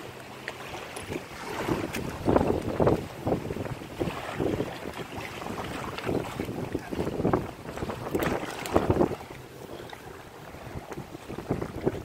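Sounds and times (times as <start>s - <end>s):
waves lapping against shore: 0.0s - 12.0s
wind buffeting microphone: 0.9s - 12.0s.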